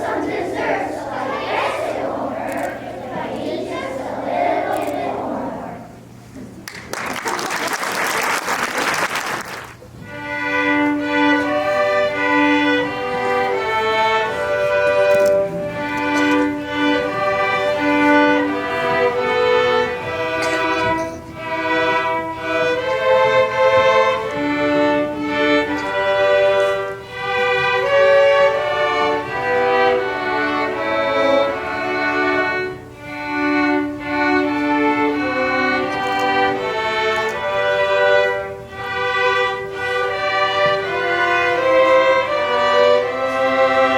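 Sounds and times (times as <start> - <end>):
violin melody: 0.0 - 5.9, 10.0 - 43.9.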